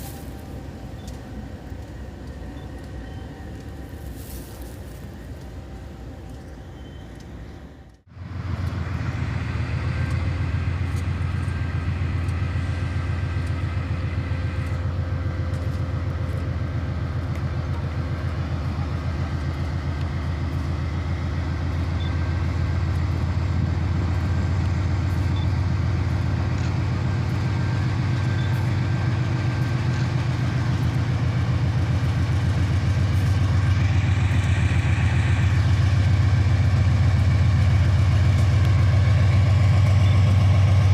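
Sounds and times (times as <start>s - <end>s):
diesel locomotive engine drone: 0.0s - 40.9s.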